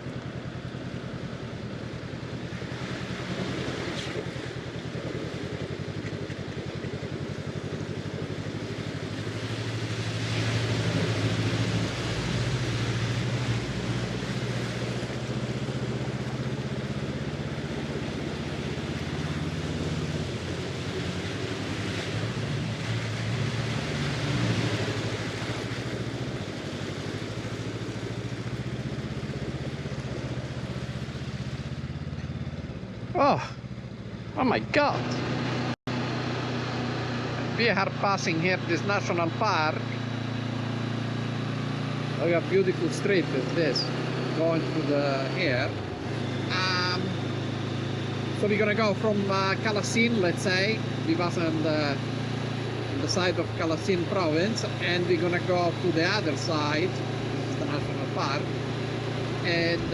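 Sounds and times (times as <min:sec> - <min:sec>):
motorcycle engine running: 0:00.0 - 0:59.9
steady rushing noise: 0:00.0 - 0:59.9.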